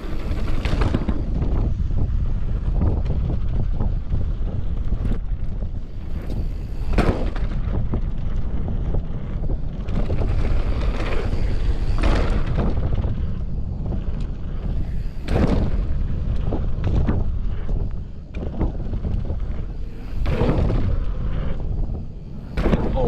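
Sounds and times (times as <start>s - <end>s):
bike tyres rumbling on trail: 0.0s - 23.0s
wind rushing over microphone: 0.0s - 23.0s.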